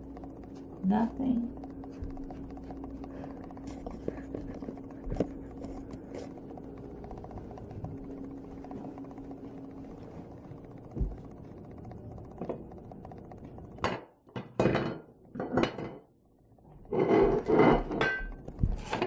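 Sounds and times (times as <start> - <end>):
steady low hum: 0.0 - 14.3, 15.1 - 19.0.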